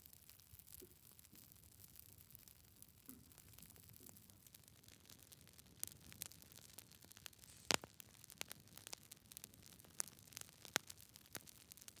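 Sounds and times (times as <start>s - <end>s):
faint steady hiss: 0.0s - 12.0s
wood fire crackling and popping: 0.0s - 12.0s.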